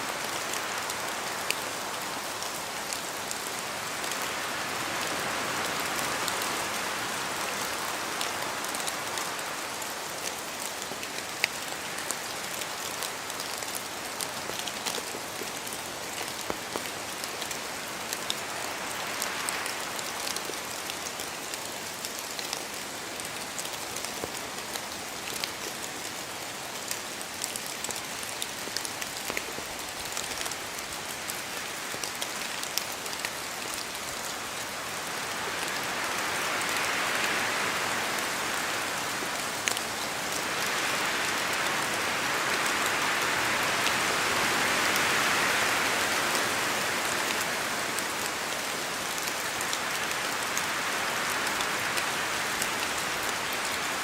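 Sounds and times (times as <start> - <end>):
steady rain falling: 0.0 - 54.0
wind through trees: 0.0 - 54.0.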